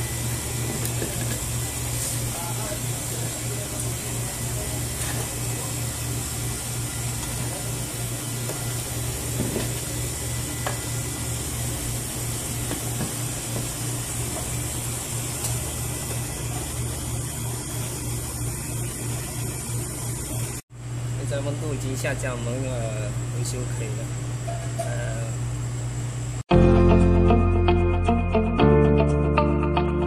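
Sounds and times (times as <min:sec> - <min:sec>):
refrigeration compressor humming: 0:00.0 - 0:26.4.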